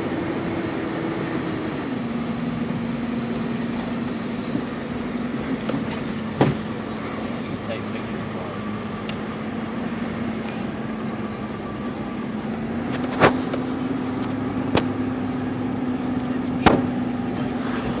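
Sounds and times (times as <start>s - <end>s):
motor vehicle humming: 0.0s - 18.0s.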